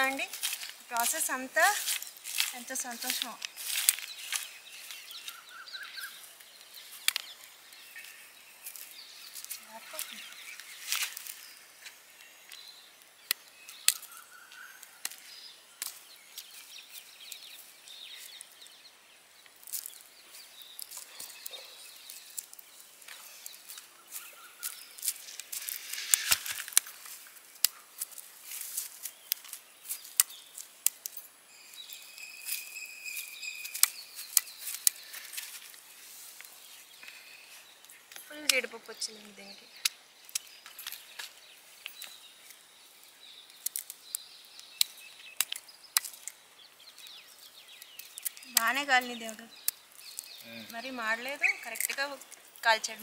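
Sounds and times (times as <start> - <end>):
nuts crackling and popping on fire: 0.0 - 53.0.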